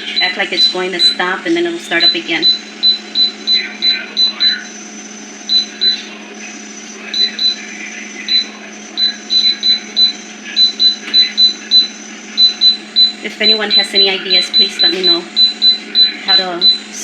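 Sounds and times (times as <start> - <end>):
oven fan humming: 0.0 - 17.0.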